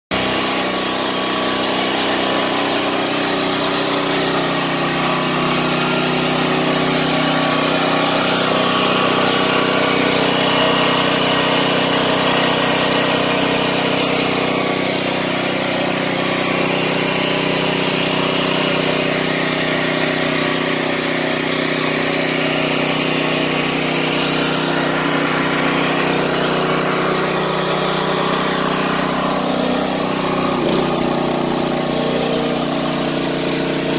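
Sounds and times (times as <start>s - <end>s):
generator running: 0.1s - 33.9s.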